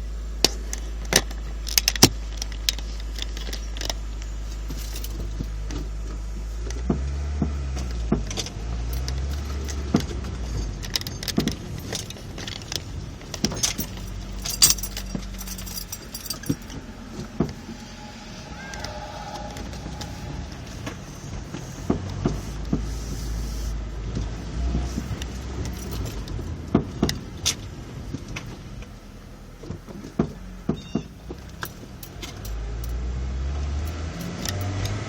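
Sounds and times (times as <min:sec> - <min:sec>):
suspension clunks and rattles: 0:00.0 - 0:35.0
vehicle rumble: 0:00.0 - 0:35.0.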